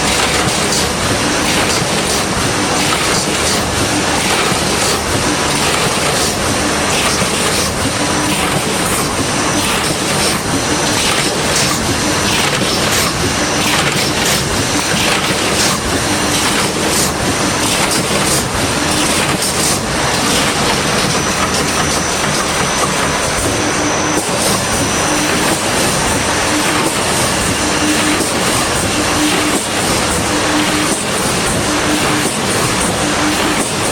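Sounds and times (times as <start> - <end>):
welding machine clattering: 0.0 - 33.9.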